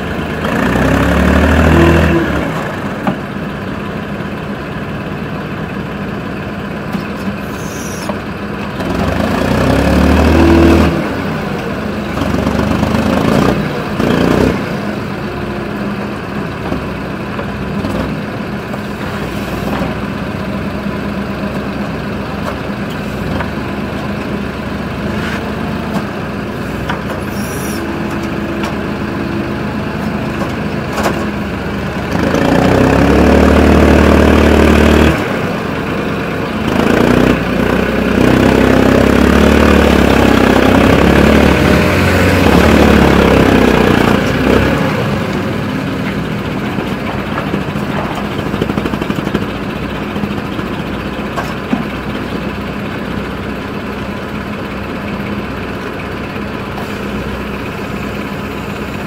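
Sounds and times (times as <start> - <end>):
excavator engine running and revving: 0.0 - 59.0.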